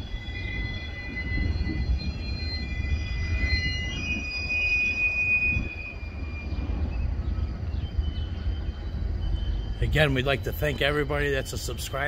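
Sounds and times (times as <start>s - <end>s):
steady low rumble: 0.0s - 12.0s
train wheels squealing: 0.0s - 12.0s.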